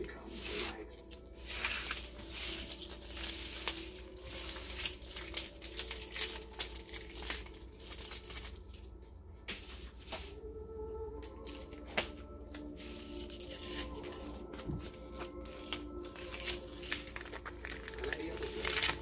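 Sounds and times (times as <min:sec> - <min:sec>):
vinyl peeling and crinkling: 0:00.0 - 0:10.5, 0:11.1 - 0:19.0.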